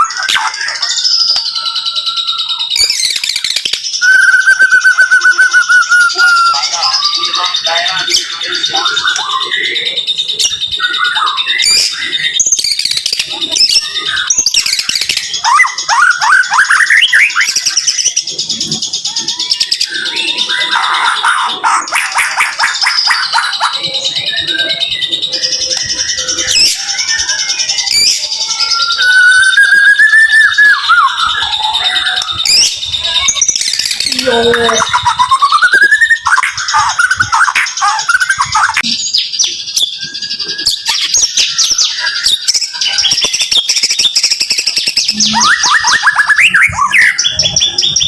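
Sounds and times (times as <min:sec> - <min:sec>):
bird singing whistled phrases: 0:00.0 - 0:48.0.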